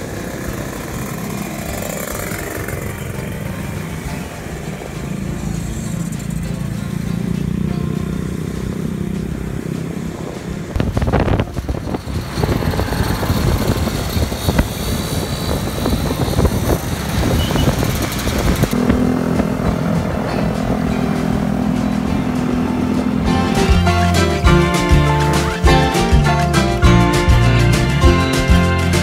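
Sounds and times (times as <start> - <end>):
motorcycle engines: 0.0 - 29.0
wind and road noise: 0.0 - 29.0.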